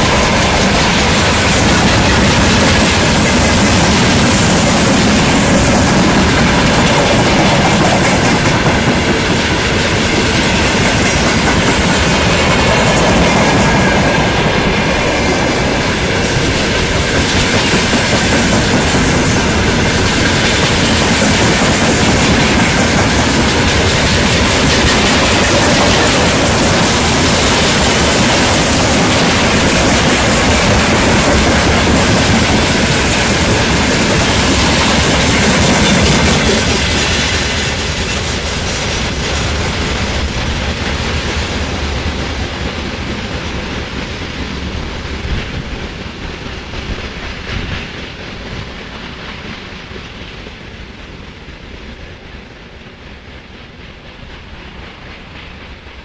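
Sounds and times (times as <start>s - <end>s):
wheels clacking over rail joints: 0.0s - 51.0s
train wheels rolling on rails: 0.0s - 56.0s.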